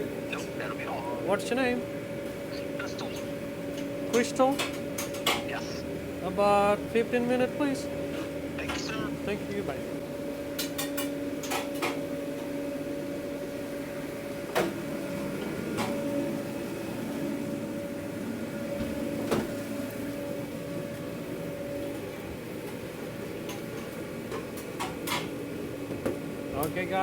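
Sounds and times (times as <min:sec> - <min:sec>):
electric machine hum: 0:00.0 - 0:27.0.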